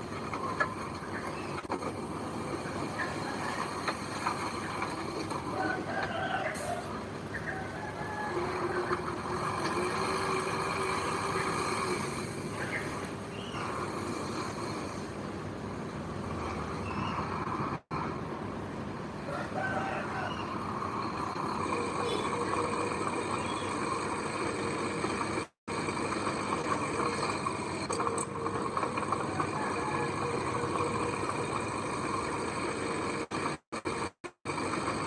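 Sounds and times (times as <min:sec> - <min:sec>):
diesel engine of heavy machinery: 0:00.0 - 0:35.0.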